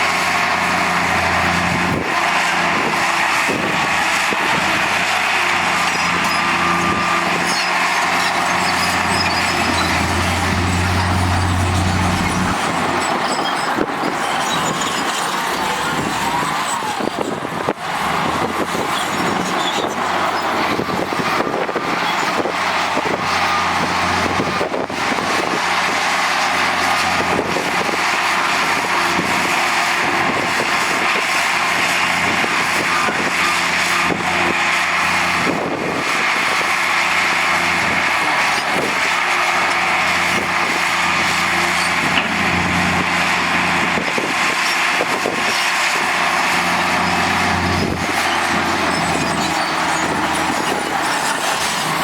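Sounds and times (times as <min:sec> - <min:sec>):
diesel construction machinery running: 0:00.0 - 0:52.0.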